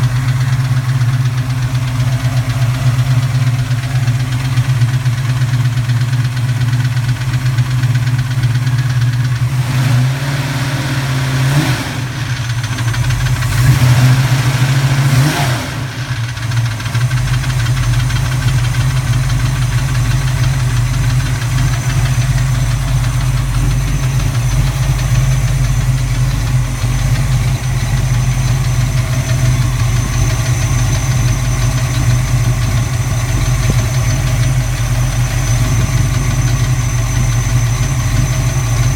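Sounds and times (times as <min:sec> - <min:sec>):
engine idling and revving: 0:00.0 - 0:38.9
metallic engine rapping: 0:00.0 - 0:38.9.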